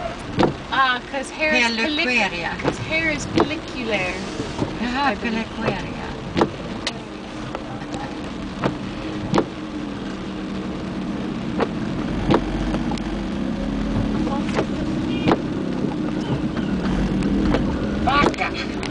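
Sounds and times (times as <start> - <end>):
car engine running inside cabin: 0.0 - 18.9.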